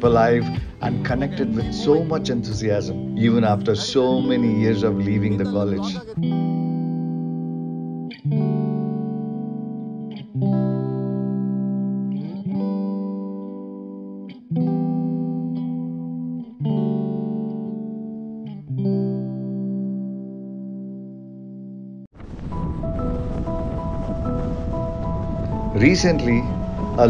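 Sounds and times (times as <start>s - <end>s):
guitar chords ringing: 0.0s - 27.0s.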